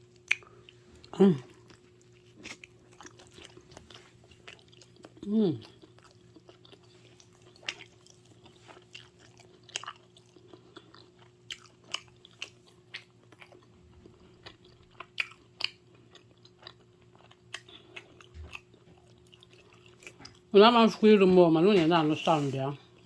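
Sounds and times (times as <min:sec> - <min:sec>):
person chewing pizza: 0:00.0 - 0:20.5
faint steady hum: 0:00.0 - 0:23.0.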